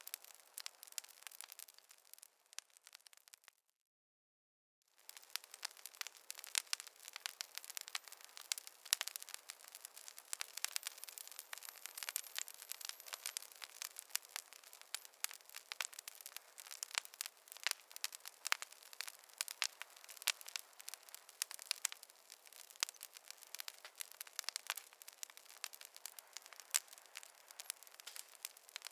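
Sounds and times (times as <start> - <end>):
campfire crackling and popping: 0.0 - 3.6, 4.9 - 28.9
fire hiss: 5.0 - 28.9.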